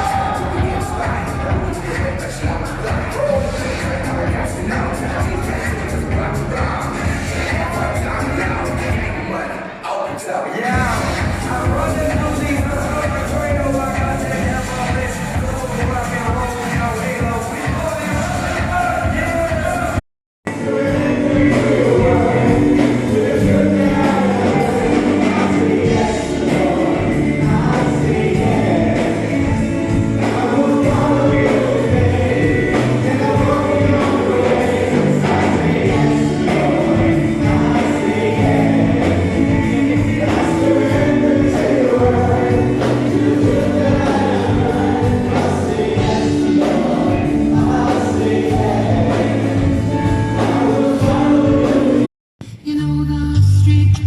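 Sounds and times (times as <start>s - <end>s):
band with steady beat: 0.0s - 9.2s, 10.7s - 52.1s
gospel choir singing: 0.0s - 52.1s.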